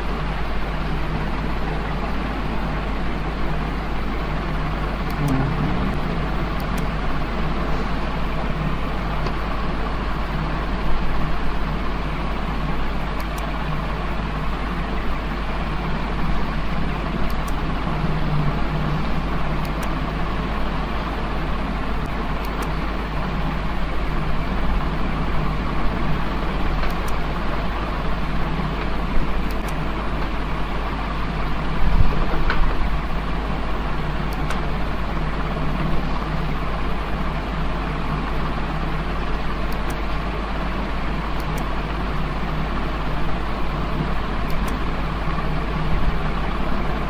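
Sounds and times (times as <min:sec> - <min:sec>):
low electrical hum: 0:00.0 - 0:47.0.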